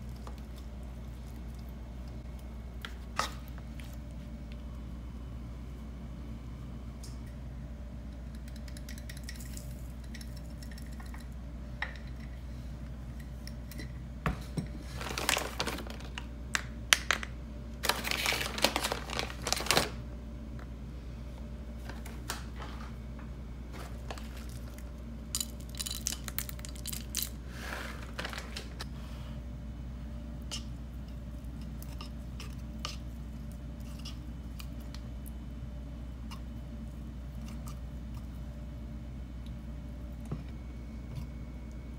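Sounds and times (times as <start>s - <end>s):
low hum: 0.0s - 18.5s, 20.0s - 41.9s.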